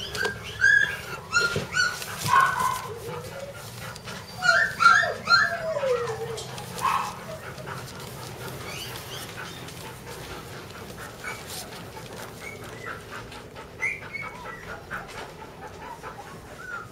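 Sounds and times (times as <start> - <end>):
puppies squeaking and whimpering: 0.0 - 16.9.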